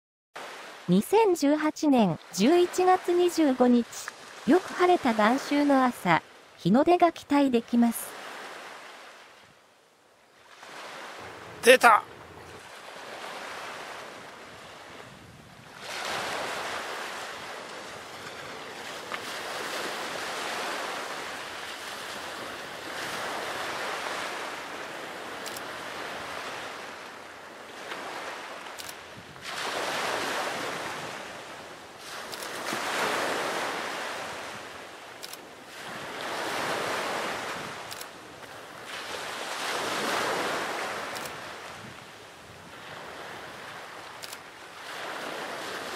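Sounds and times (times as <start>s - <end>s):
sea waves washing ashore: 0.4s - 45.9s.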